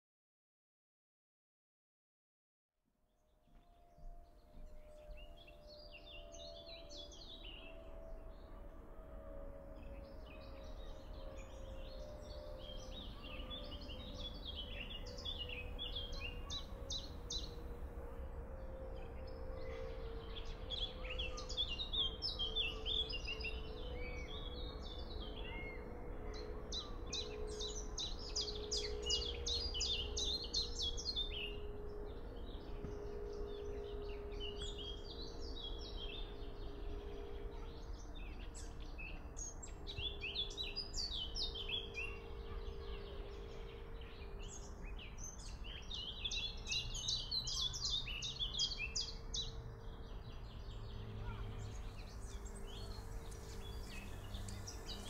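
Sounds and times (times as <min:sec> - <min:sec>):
small birds chirping and singing: 0:04.4 - 0:55.0.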